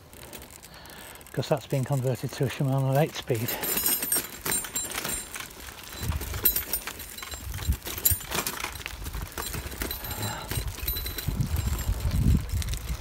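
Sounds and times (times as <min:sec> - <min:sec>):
bicycle rattling and clinking: 0:00.0 - 0:13.0
low rumble of tyres on dirt: 0:00.0 - 0:13.0.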